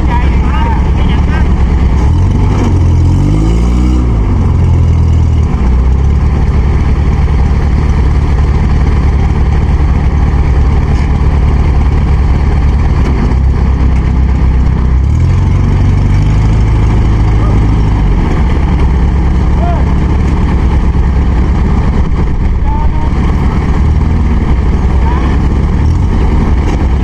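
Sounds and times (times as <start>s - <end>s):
farm machine engine running: 0.0s - 27.0s.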